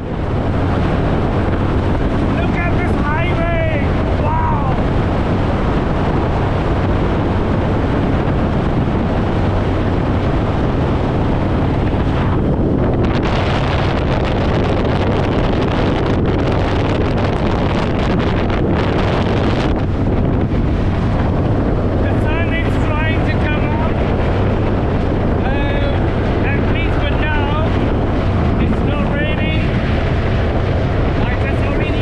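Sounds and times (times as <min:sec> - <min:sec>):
low engine drone: 0:00.0 - 0:32.0
wind buffeting microphone: 0:00.0 - 0:32.0.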